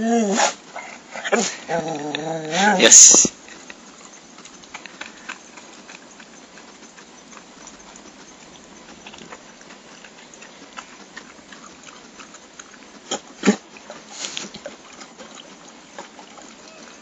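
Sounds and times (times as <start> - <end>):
dog lapping water: 0.5 - 17.0.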